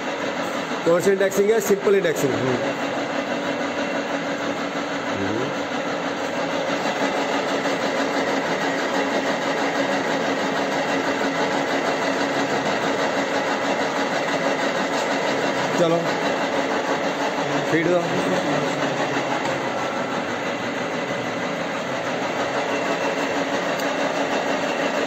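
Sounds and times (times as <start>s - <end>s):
milling machine whirring: 0.0s - 25.0s.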